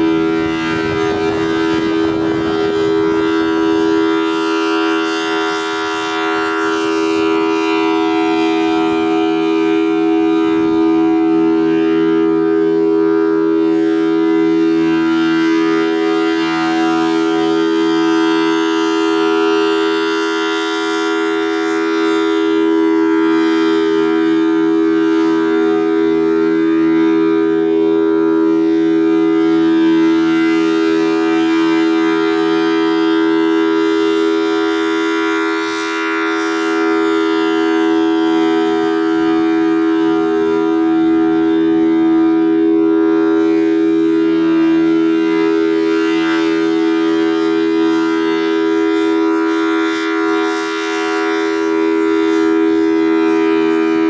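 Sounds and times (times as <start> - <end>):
warning siren two-note tone: 0.0 - 54.0.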